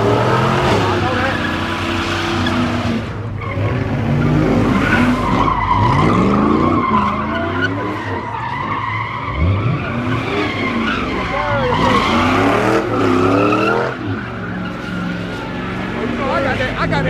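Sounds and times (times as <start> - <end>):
truck engine revving: 0.0 - 17.0
tyres squealing: 0.2 - 17.0.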